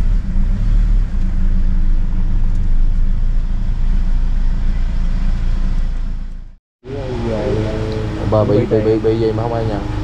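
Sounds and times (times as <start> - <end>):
vehicle cabin engine and road rumble: 0.0 - 10.0.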